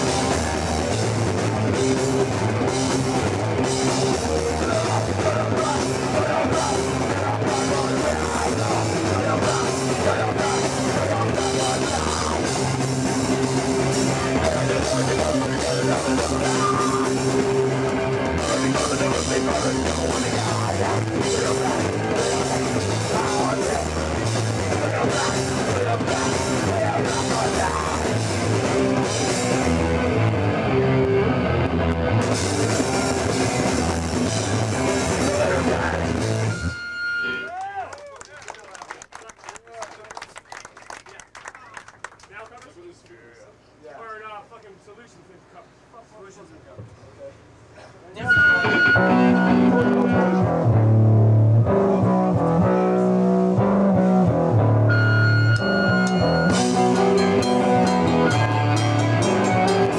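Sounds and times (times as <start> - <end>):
punk band playing live: 0.0 - 37.5, 48.3 - 59.9.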